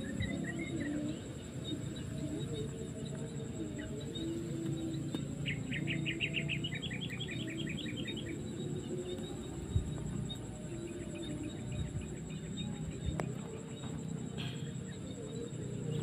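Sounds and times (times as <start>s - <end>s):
bird singing rapid trill: 0.0s - 16.0s
steady high whine: 0.0s - 16.0s.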